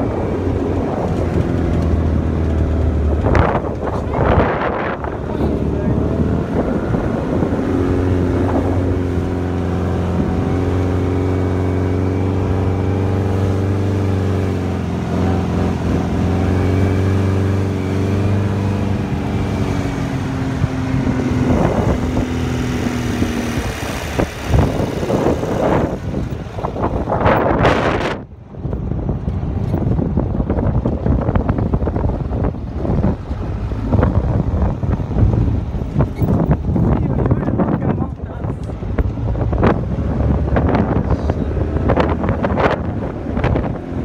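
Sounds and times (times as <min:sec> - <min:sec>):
dune buggy engine running: 0:00.0 - 0:44.0
wind buffeting microphone: 0:00.0 - 0:44.0.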